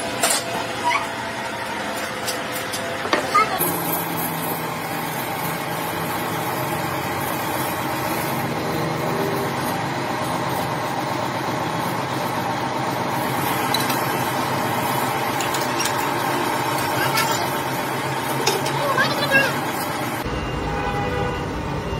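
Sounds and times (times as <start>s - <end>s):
machinery humming: 0.0s - 21.9s.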